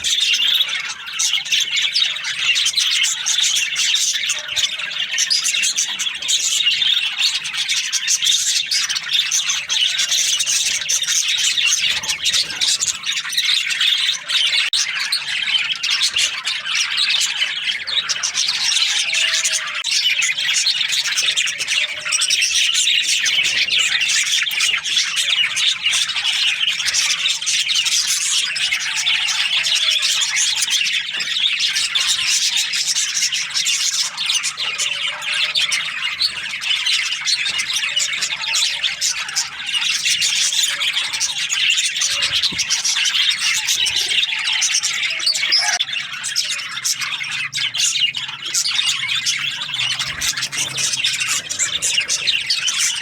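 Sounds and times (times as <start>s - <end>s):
budgies chirping and chattering: 0.0s - 53.0s.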